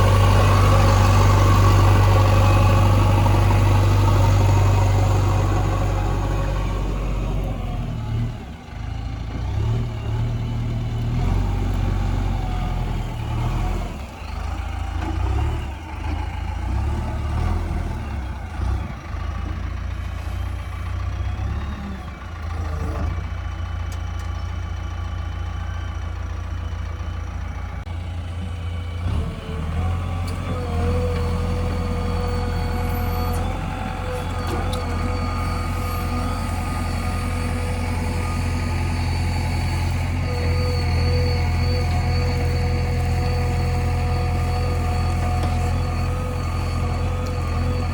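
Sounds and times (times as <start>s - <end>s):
diesel engine running under load: 0.0s - 47.9s.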